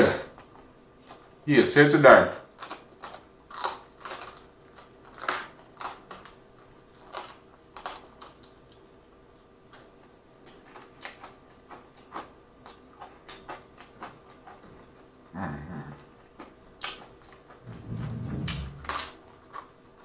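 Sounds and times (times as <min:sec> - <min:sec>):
chewing crunchy fried chicken: 0:00.2 - 0:01.5, 0:02.3 - 0:20.0.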